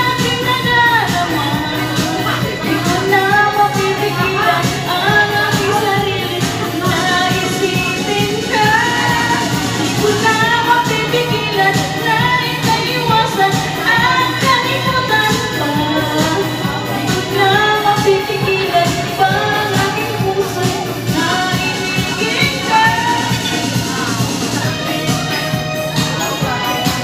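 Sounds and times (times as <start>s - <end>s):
pop backing track: 0.0s - 27.0s
woman singing into microphone: 0.0s - 27.0s.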